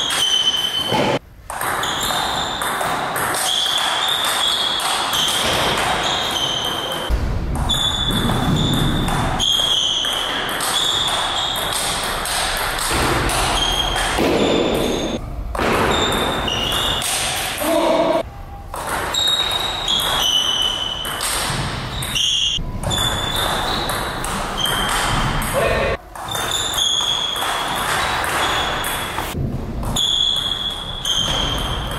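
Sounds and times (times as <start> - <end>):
table tennis balls pinging: 0.0 - 31.9.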